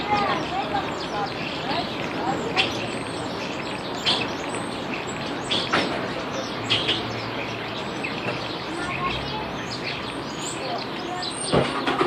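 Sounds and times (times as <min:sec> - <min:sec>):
birds chirping: 0:00.0 - 0:12.0
city background hum: 0:00.0 - 0:12.0.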